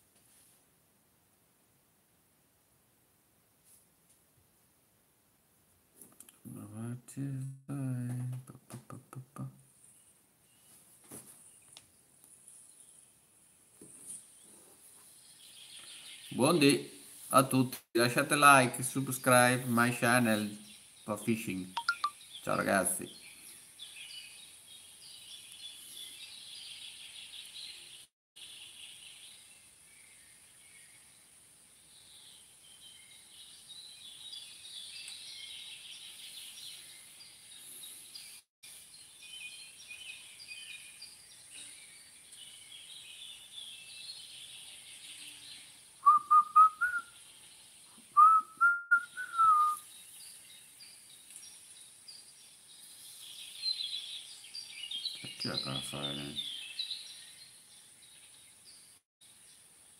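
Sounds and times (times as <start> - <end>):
small birds chirping: 6.0 - 59.9.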